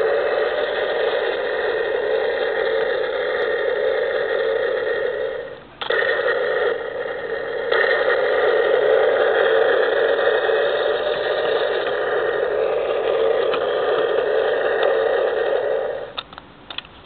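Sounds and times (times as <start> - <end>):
toy rocket electronic roar: 0.0 - 16.3.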